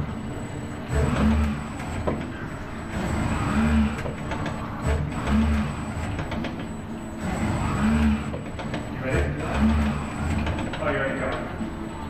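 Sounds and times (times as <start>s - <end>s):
robot arm motors whirring: 0.0s - 11.5s.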